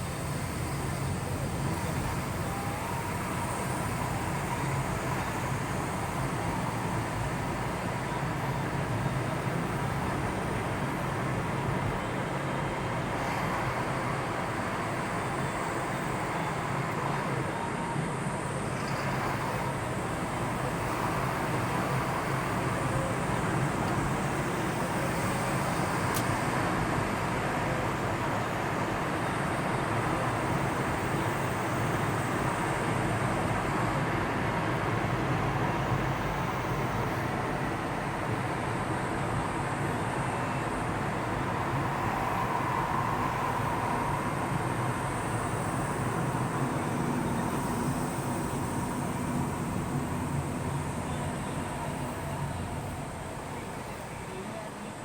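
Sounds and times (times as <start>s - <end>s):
vehicle and road noise: 0.0s - 55.0s.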